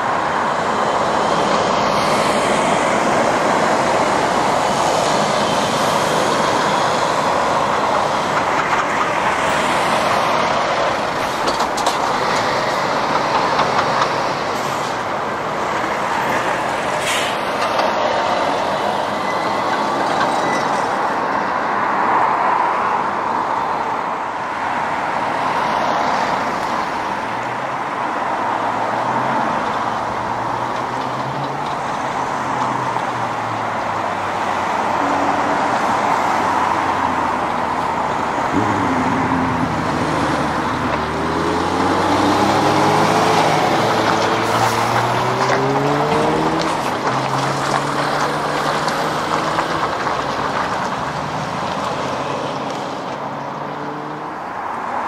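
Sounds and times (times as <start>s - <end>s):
heavy road traffic roar: 0.0s - 55.0s.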